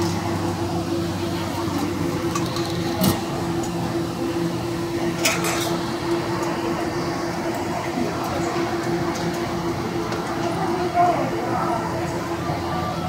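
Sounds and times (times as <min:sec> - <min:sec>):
background bustle: 0:00.0 - 0:13.0
machine humming: 0:00.0 - 0:13.0.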